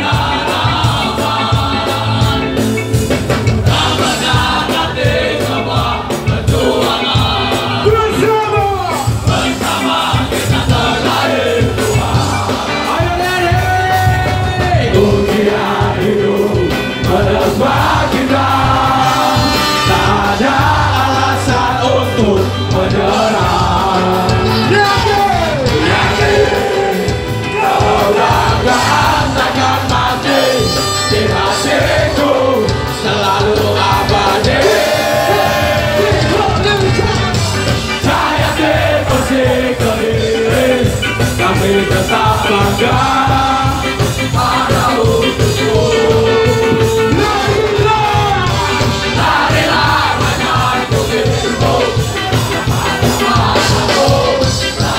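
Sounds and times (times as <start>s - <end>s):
crowd singing and shouting: 0.0s - 54.9s
live ska band playing: 0.0s - 54.9s.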